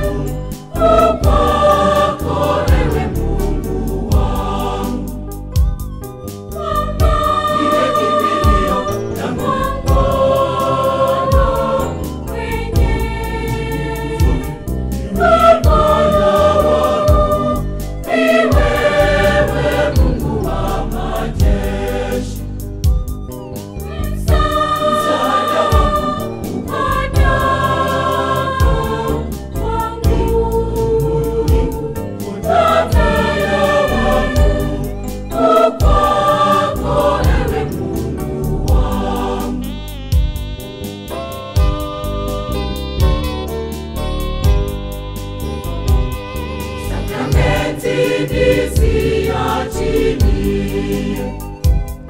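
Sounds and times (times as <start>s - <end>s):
steady beat: 0.0s - 11.9s, 15.2s - 23.2s, 24.1s - 40.8s, 46.9s - 52.0s
choir singing a gospel hymn: 0.0s - 44.7s, 45.7s - 52.0s.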